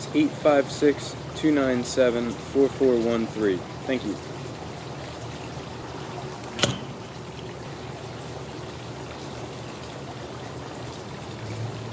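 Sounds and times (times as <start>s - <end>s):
fountain water trickling: 0.0s - 11.9s.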